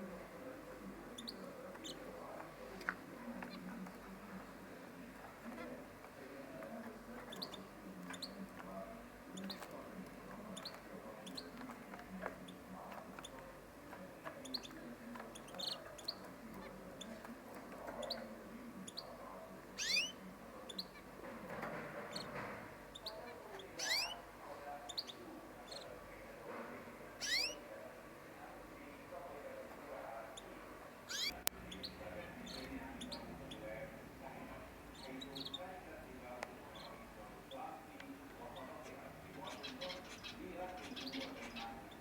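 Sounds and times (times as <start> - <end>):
canaries chirping: 0.0 - 42.0.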